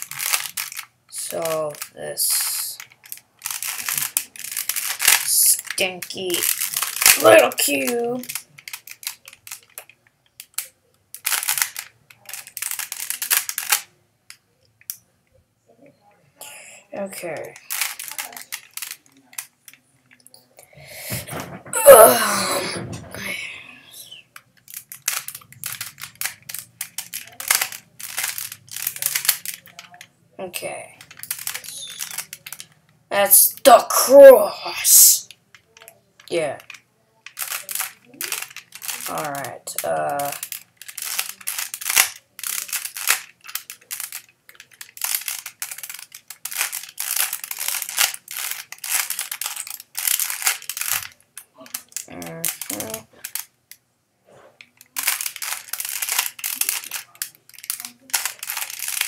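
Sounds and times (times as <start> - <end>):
plastic puzzle cube clicking: 0.0 - 1.9, 2.8 - 15.0, 17.2 - 20.4, 24.4 - 30.1, 31.0 - 32.9, 35.2 - 53.8, 54.6 - 59.0.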